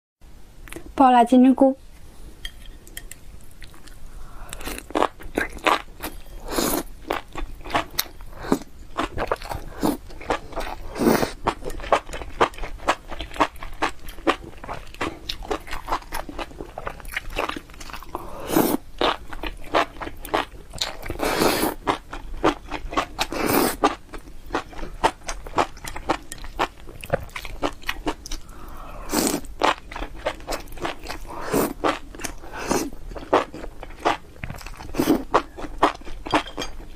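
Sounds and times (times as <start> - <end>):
chewing crunchy food: 3.4 - 36.9.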